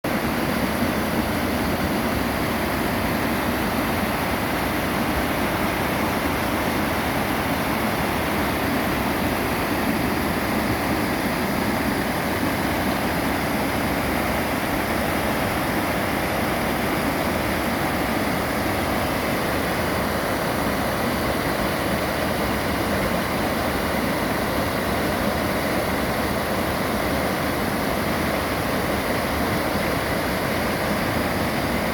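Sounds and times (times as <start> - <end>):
running water rushing: 0.0 - 31.9.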